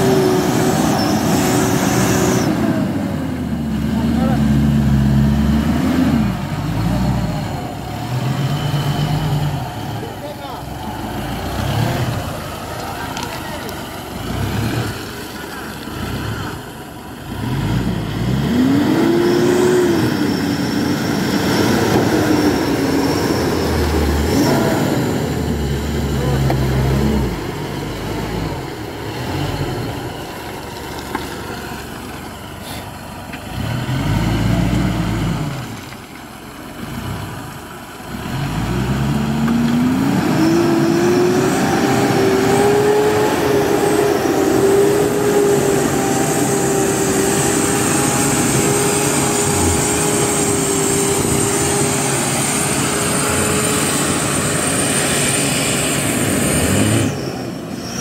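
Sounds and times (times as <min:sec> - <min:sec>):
engine whine: 0:00.0 - 0:58.0
truck engine revving: 0:00.0 - 0:58.0.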